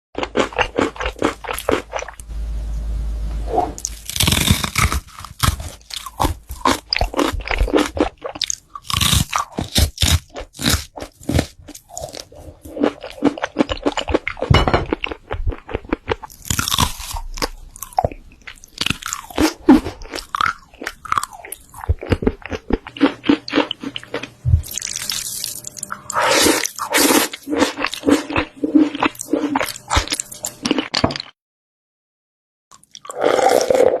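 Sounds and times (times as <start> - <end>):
crunching and chewing food: 0.2 - 2.2, 3.8 - 31.4, 32.7 - 34.0.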